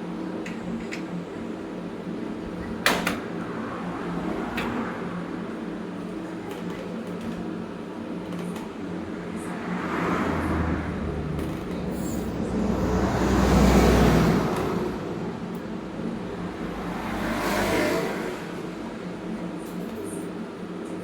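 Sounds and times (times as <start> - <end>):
road vehicles passing: 0.0 - 21.0
steady mechanical hum: 0.0 - 21.0.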